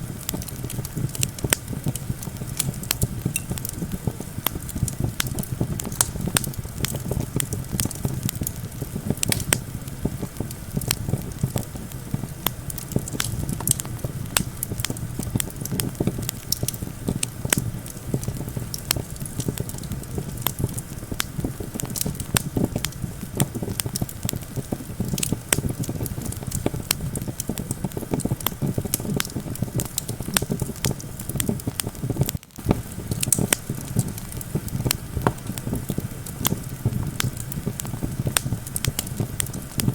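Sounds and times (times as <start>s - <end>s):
campfire crackling and popping: 0.0s - 39.9s
low wind rumble: 0.0s - 39.9s.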